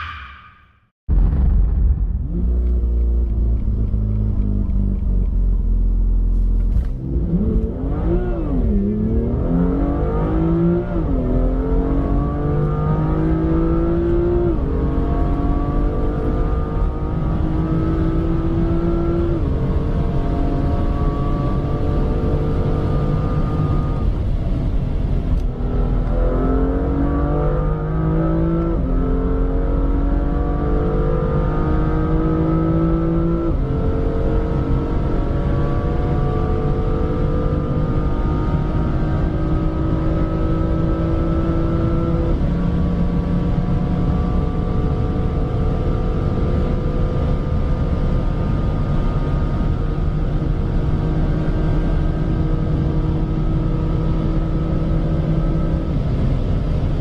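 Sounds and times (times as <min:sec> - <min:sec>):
road and wind rumble: 0:01.1 - 0:57.0
car engine accelerating hard: 0:02.2 - 0:57.0.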